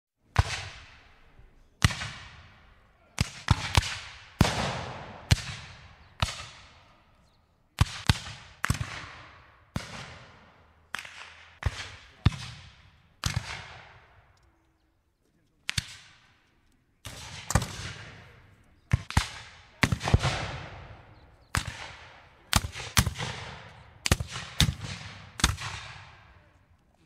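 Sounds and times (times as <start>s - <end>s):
shotgun shots echoing: 0.3s - 7.0s, 7.8s - 14.3s, 15.7s - 16.4s, 17.0s - 26.5s.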